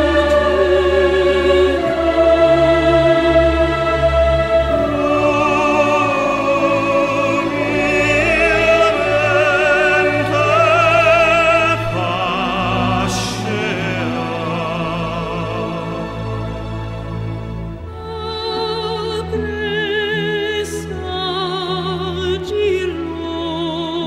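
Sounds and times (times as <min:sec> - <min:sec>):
instrumental accompaniment: 0:00.0 - 0:24.0
operatic singing with vibrato: 0:00.0 - 0:24.0.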